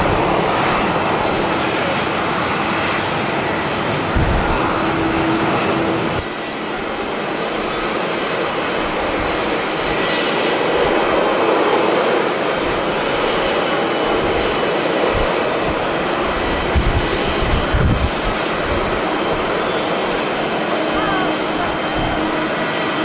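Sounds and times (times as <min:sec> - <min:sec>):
jet airliner engines roaring: 0:00.0 - 0:23.0
wind buffeting microphone: 0:00.0 - 0:23.0.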